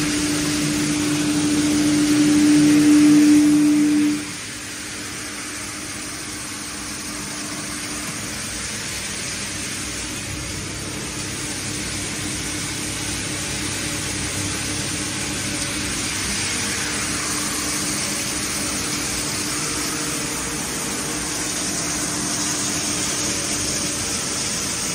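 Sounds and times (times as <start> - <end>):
shredding machine whirring: 0.0 - 24.9.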